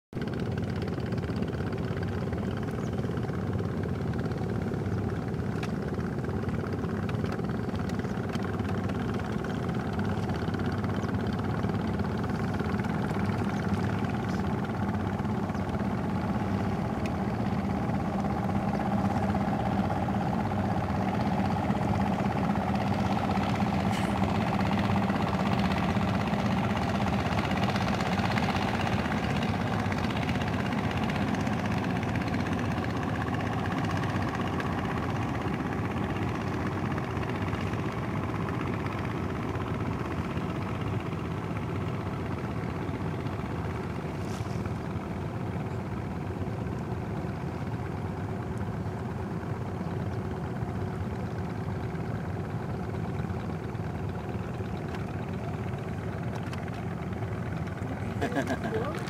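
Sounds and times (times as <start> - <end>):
motorboat engine running: 0.2 - 59.0.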